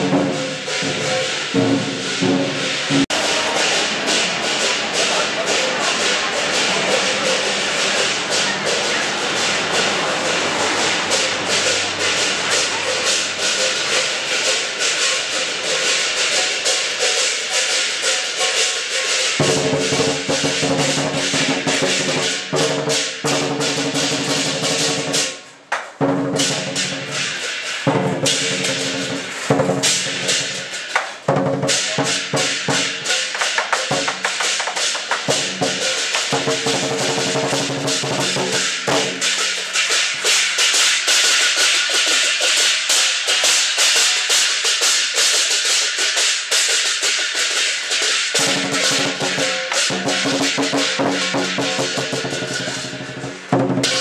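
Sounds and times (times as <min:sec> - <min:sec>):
gong: 0:00.0 - 0:25.4, 0:26.1 - 0:54.0
drum beating fast rhythm: 0:00.0 - 0:54.0
hand cymbals crashing: 0:00.0 - 0:54.0.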